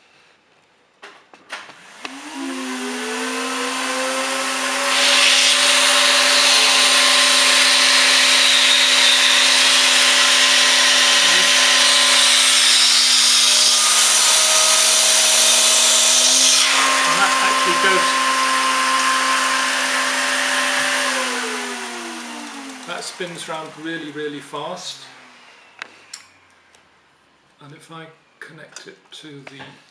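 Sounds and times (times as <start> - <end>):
vacuum cleaner motor whine: 1.7 - 26.6.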